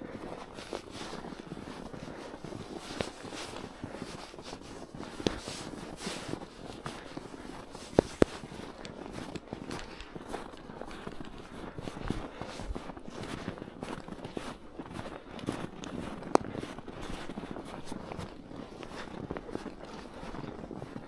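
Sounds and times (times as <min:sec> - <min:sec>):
footsteps crunching through snow: 0:00.0 - 0:21.0.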